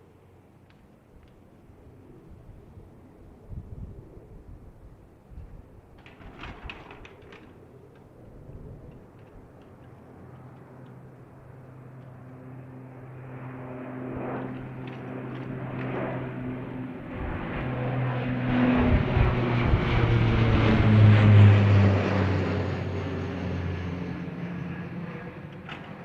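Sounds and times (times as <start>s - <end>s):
airliner engines taking off: 0.0s - 26.0s.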